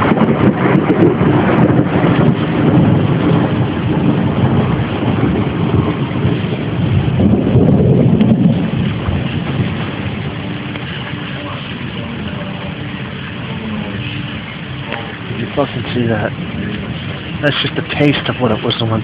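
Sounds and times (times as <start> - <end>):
rolling thunder: 0.0 - 19.0
steady rain: 0.0 - 19.0
wind buffeting microphone: 0.0 - 19.0.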